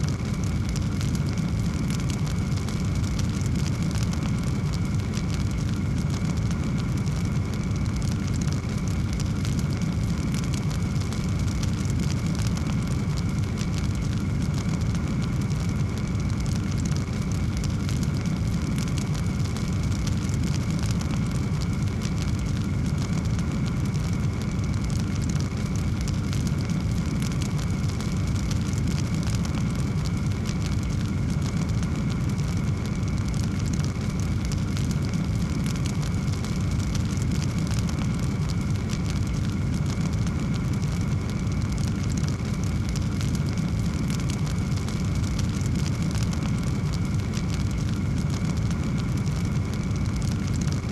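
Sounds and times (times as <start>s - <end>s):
low rumble of flame: 0.0s - 50.9s
wood fire crackling: 0.0s - 50.9s.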